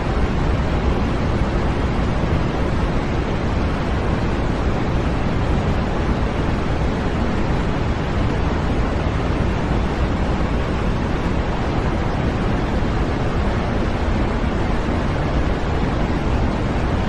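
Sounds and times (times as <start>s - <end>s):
electronic white noise hiss: 0.0s - 17.0s.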